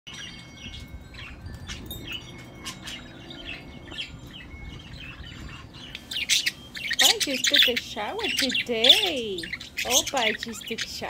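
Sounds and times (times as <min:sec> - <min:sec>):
budgerigars chirping: 0:00.1 - 0:11.0.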